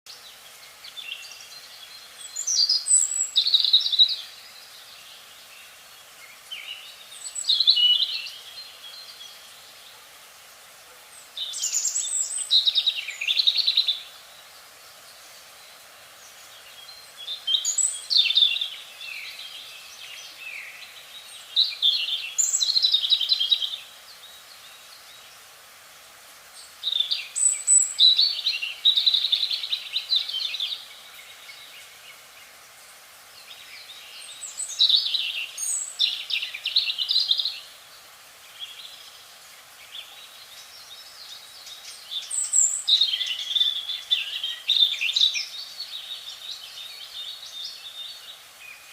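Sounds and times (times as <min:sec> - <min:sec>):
faint background hiss: 0:00.1 - 0:48.9.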